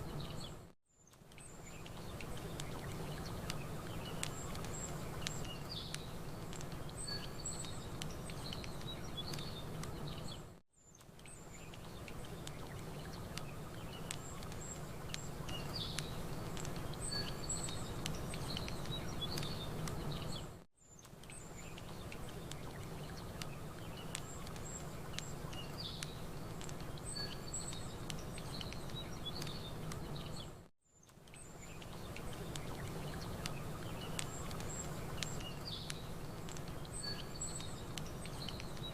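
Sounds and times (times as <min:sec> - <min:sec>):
small birds chirping: 0:00.0 - 0:38.9
campfire crackling: 0:01.1 - 0:10.4, 0:11.0 - 0:38.9.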